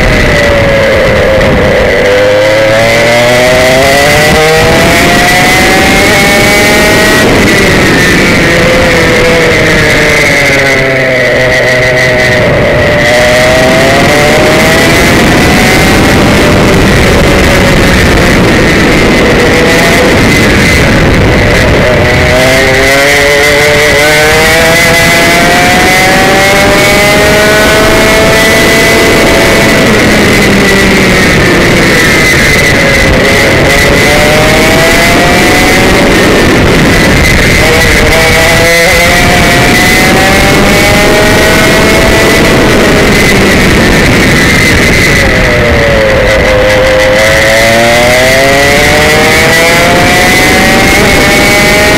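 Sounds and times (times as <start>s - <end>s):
kart engine revving: 0.0s - 51.9s.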